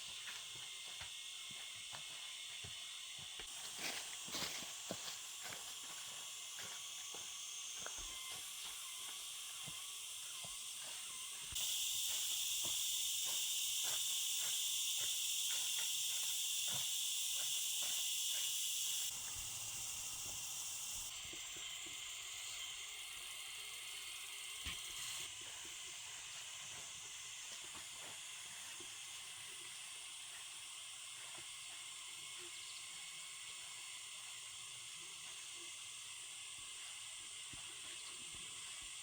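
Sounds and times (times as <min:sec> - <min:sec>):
high-pitched hiss: 0:00.0 - 0:39.0.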